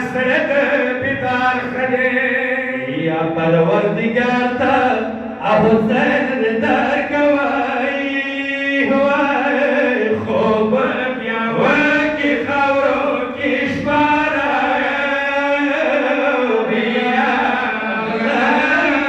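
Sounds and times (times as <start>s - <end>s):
man chanting a lament: 0.0s - 19.0s.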